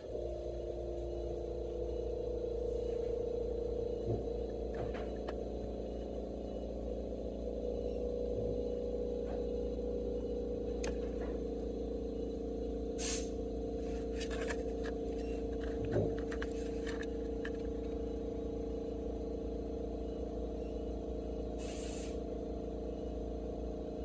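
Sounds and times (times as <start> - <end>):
droning hum with held tones: 0.0 - 24.0.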